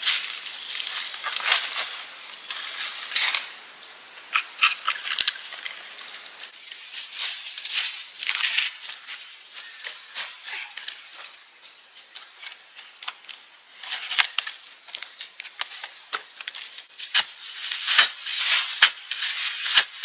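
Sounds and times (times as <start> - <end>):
dry leaves and twigs crunching: 0.0 - 3.7, 4.3 - 20.0.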